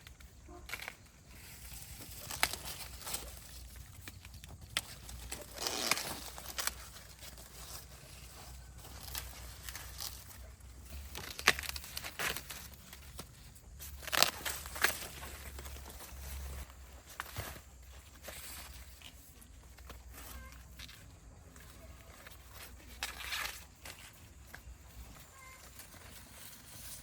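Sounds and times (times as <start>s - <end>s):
rustling and crackling: 0.0s - 27.0s.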